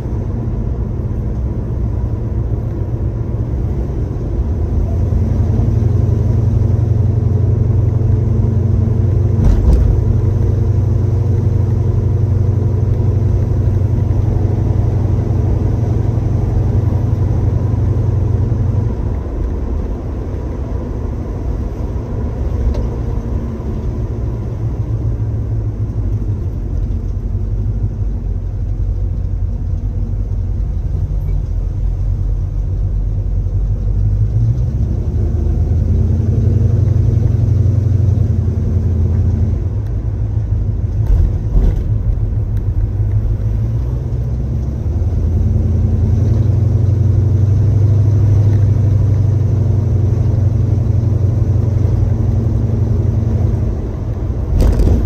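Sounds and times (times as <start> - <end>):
car engine low rumble: 0.0 - 55.0.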